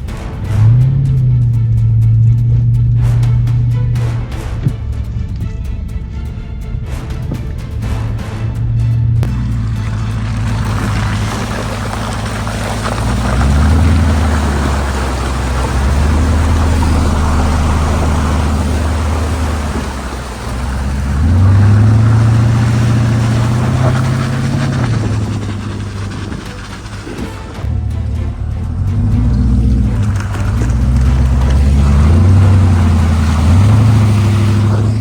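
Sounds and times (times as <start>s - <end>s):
car engine drone: 0.0s - 35.0s
road noise: 0.0s - 35.0s.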